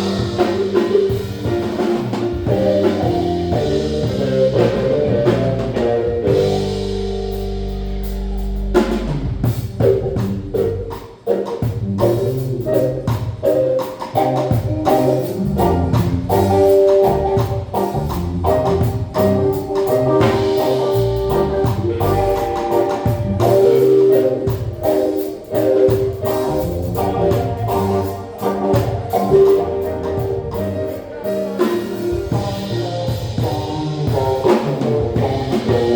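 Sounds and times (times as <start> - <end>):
live band music: 0.0 - 35.9.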